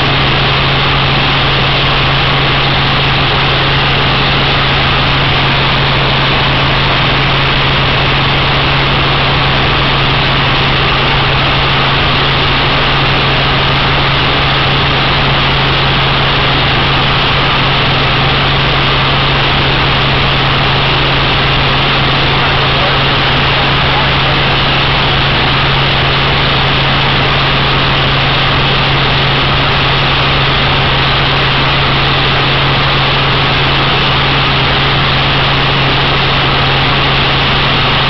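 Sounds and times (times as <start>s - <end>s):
helicopter engine and rotor drone: 0.0s - 38.0s.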